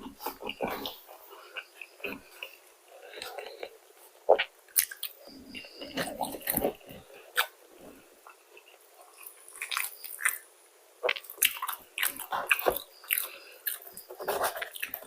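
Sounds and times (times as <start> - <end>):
person chewing crispy chicken: 0.2 - 7.6, 8.2 - 15.0.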